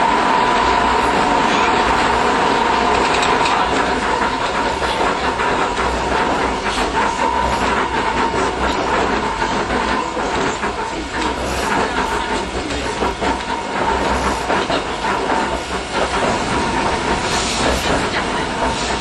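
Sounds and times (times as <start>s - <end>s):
streetcar running noise: 0.0s - 19.0s
wheels clicking over rails: 0.0s - 19.0s.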